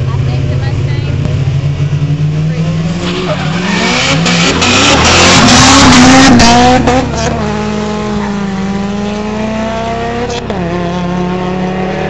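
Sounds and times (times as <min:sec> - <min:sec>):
race cars accelerating past: 0:01.8 - 0:12.0.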